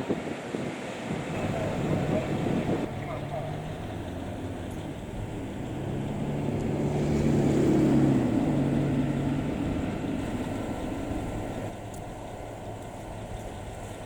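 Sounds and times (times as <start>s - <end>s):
vehicle passing by: 1.4s - 12.8s.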